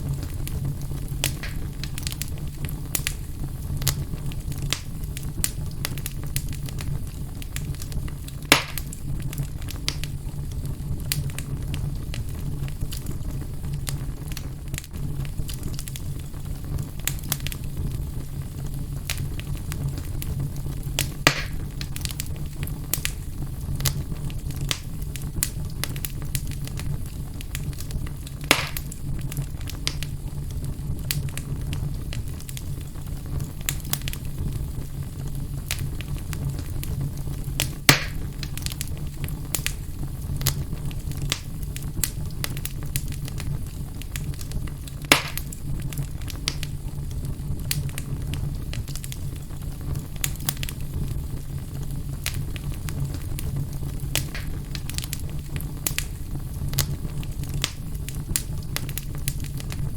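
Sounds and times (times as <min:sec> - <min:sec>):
loud fire pops: 0:00.0 - 0:59.9
wood fire crackling: 0:00.0 - 0:59.9.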